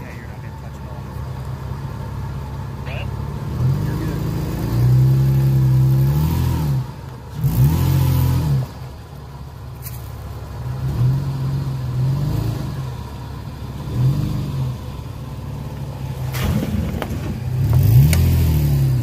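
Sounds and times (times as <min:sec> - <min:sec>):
pickup truck engine revving: 0:00.0 - 0:09.6, 0:10.5 - 0:19.0.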